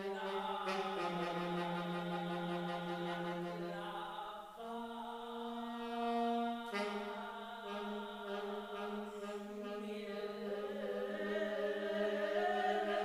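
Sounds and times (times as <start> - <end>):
person singing long notes: 0.0 - 13.0
saxophone: 0.0 - 13.0.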